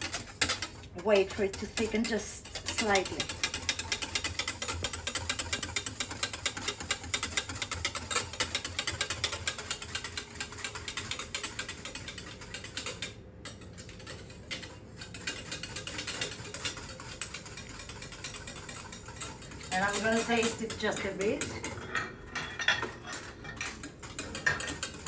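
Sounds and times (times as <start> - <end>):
whisk clicking against pan: 0.0 - 21.8, 23.7 - 25.0.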